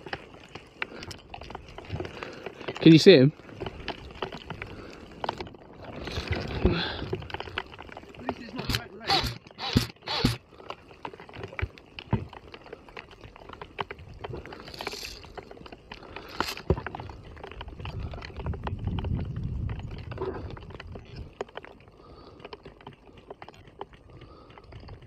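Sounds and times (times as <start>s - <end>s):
hailstones pelting down: 0.0s - 25.0s.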